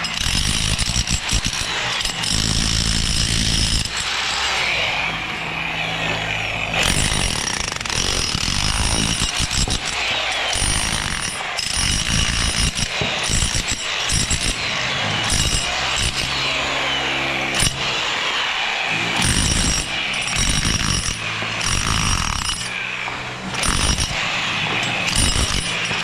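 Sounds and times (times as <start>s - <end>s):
construction power tools running: 0.0s - 26.0s.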